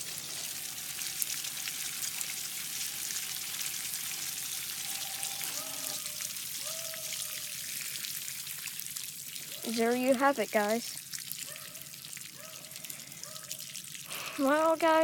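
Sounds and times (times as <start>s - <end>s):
running water hissing: 0.0s - 15.0s.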